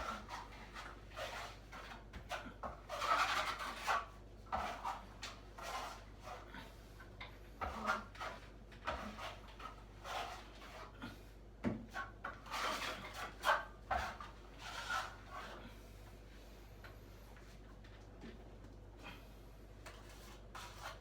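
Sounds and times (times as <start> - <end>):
hand tool scraping plaster: 0.0 - 15.8, 19.8 - 21.0.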